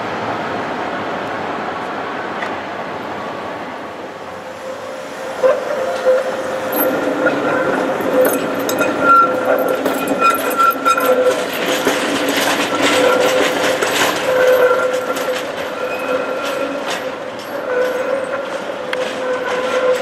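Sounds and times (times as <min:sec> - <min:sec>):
steady tram whine: 0:00.0 - 0:20.0
tram wheels clattering over rails: 0:00.2 - 0:20.0.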